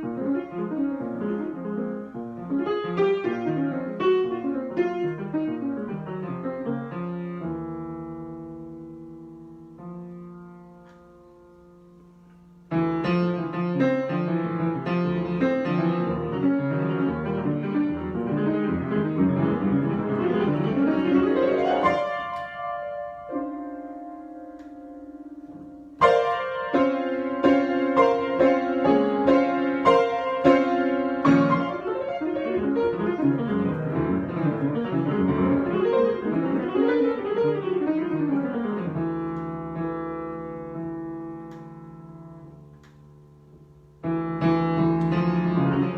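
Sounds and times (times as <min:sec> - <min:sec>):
piano improvisation: 0:00.0 - 0:45.9.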